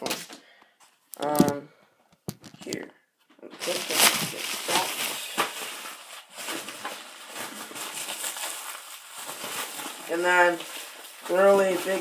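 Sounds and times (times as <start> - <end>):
paper and plastic rustling: 2.3 - 12.0.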